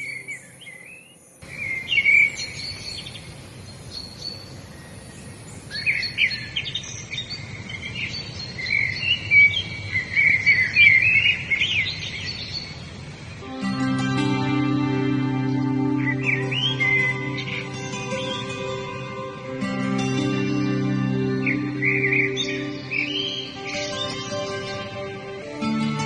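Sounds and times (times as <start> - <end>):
low outdoor background: 0.0 - 26.0
songbirds chirping and singing: 0.0 - 26.0.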